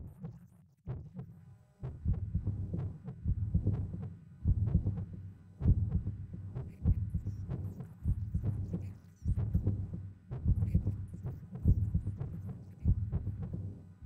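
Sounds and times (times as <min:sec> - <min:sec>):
low throbbing pulse: 0:01.8 - 0:13.8.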